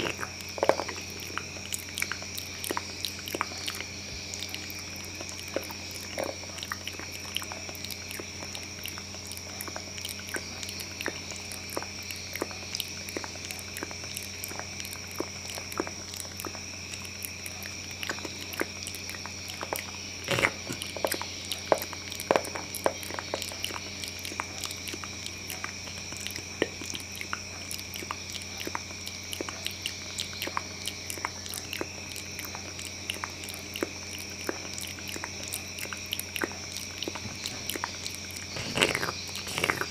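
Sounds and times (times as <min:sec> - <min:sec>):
low steady hum: 0:00.0 - 0:39.9
wet mouth clicks and smacks: 0:00.0 - 0:39.9.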